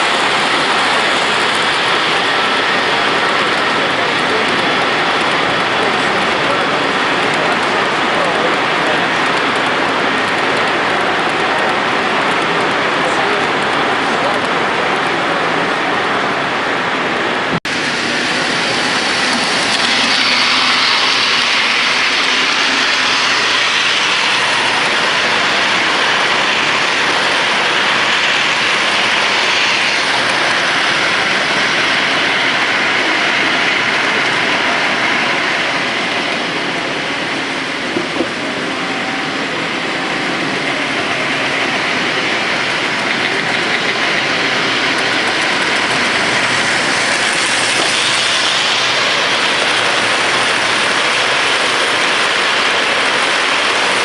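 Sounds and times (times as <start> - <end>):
model train rolling on track: 0.0 - 54.0.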